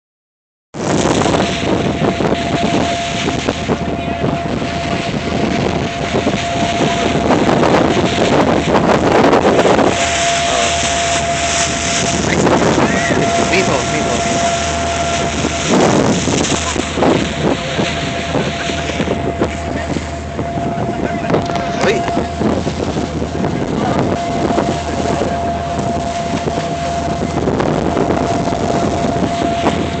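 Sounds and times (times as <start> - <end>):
steady rushing noise: 0.8 - 30.0
wind buffeting microphone: 0.8 - 30.0
low drone: 1.2 - 30.0
thin whine: 1.2 - 30.0.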